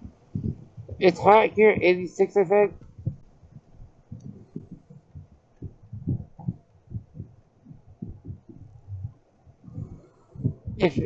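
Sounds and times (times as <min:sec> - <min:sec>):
low thuds on microphone: 0:00.0 - 0:01.9, 0:02.7 - 0:11.0.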